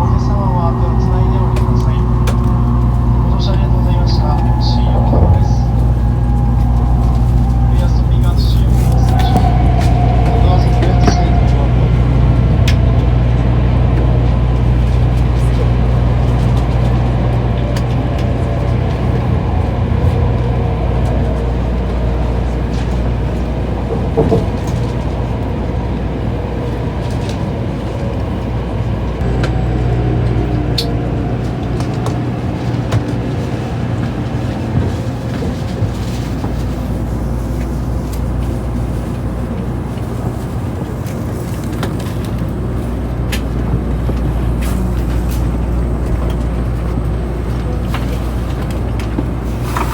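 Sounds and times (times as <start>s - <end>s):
train cabin low rumble: 0.0s - 49.9s.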